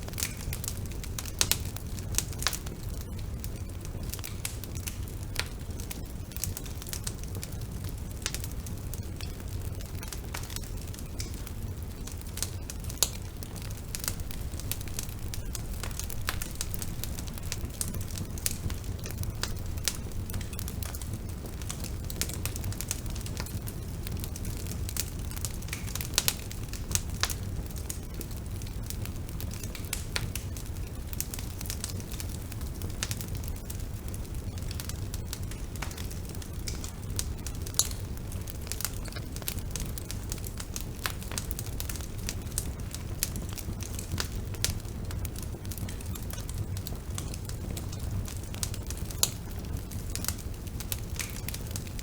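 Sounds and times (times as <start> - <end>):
bonfire crackling and popping: 0.0 - 52.0.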